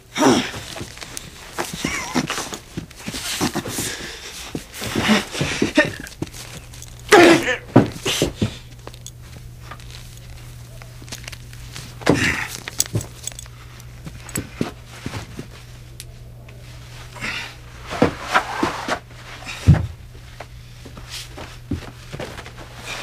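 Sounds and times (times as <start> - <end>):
bodies and clothing scuffling: 0.2 - 23.0.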